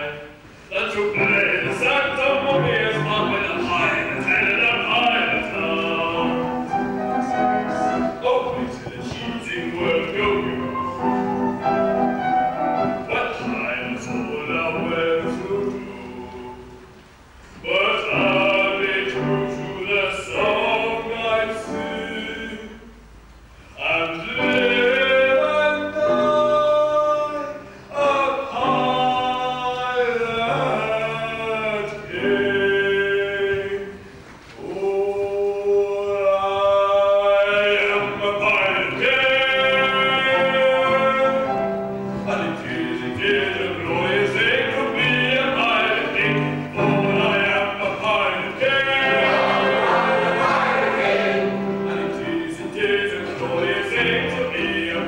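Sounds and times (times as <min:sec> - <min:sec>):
man singing operatic solo: 0:00.0 - 0:16.8, 0:17.6 - 0:23.0, 0:23.7 - 0:55.0
piano accompaniment: 0:00.0 - 0:55.0.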